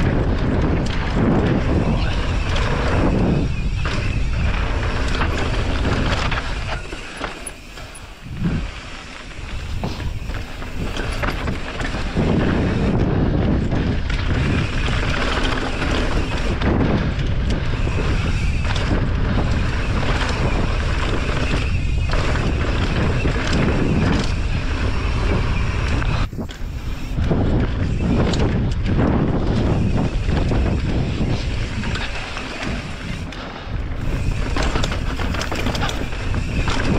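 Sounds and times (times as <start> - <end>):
bike tyre rumble on dirt trail: 0.0 - 36.9
wind buffeting microphone: 0.0 - 36.9.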